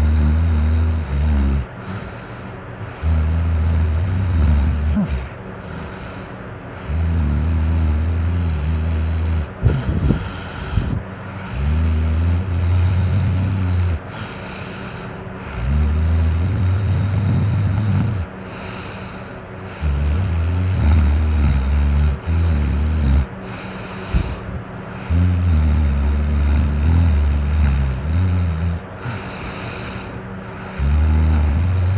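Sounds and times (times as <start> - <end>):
person snoring loudly: 0.0 - 2.2, 2.8 - 6.0, 6.8 - 19.1, 19.7 - 31.9
electric fan whirring: 0.0 - 31.9
short snorts: 0.0 - 31.9.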